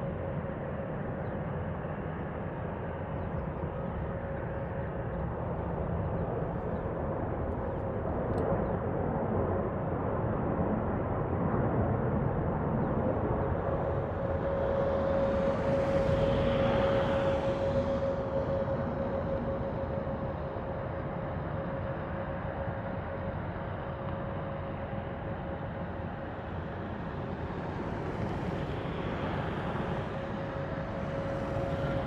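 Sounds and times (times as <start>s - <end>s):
airliner engines running: 0.0s - 32.0s.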